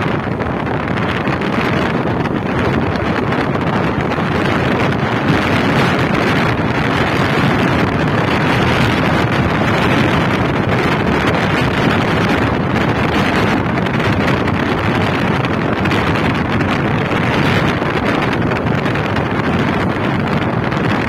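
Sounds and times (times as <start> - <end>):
car tyres on road: 0.0 - 21.0
wind buffeting microphone: 0.0 - 21.0.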